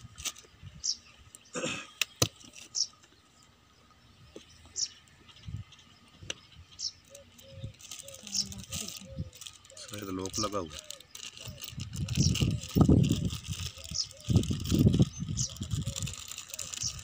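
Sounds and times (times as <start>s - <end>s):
bird chirping: 0.4s - 17.0s.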